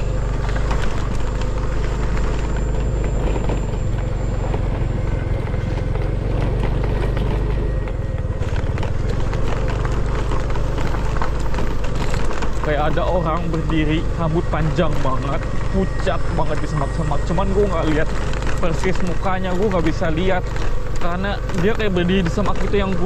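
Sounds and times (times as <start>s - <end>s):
bodywork rattling and knocking: 0.0s - 23.0s
motorcycle engine running: 0.0s - 23.0s.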